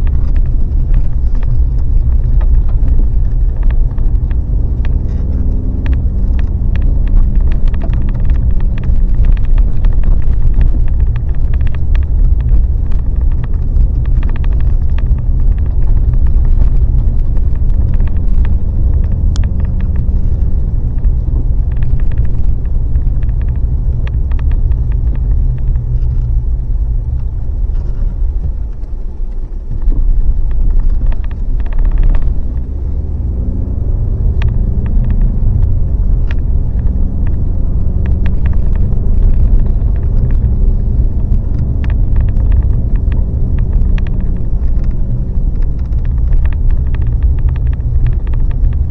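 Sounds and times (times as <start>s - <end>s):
small ticks and rattles: 0.0s - 48.9s
vehicle engine and road noise: 0.0s - 48.9s.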